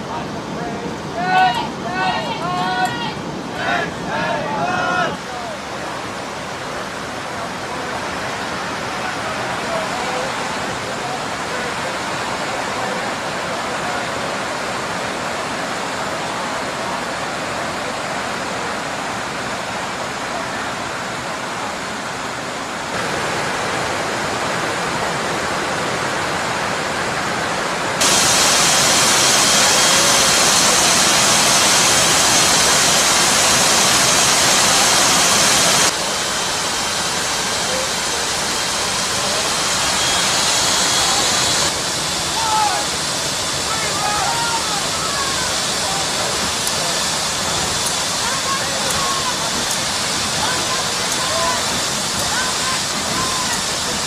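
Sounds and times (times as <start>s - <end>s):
aircraft engine noise: 0.0s - 54.0s
rushing wind: 0.0s - 54.0s.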